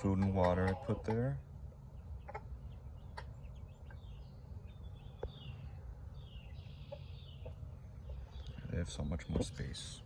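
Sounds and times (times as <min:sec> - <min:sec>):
chicks peeping: 0:00.0 - 0:10.0
low outdoor rumble: 0:00.0 - 0:10.0.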